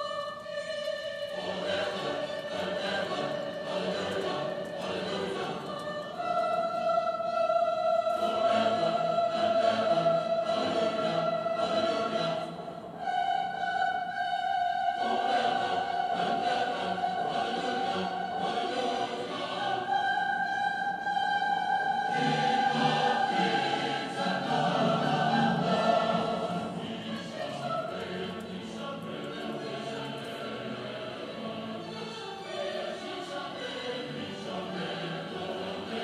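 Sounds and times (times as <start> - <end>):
operatic choir with orchestra: 0.0 - 36.0.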